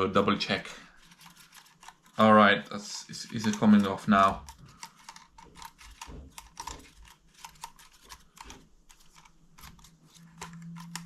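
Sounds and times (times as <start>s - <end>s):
plastic parts clicking: 1.0s - 11.0s.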